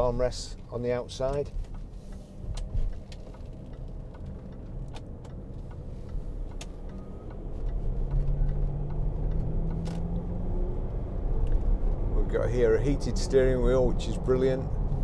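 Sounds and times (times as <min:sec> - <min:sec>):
diesel engine and road noise: 0:00.0 - 0:15.0.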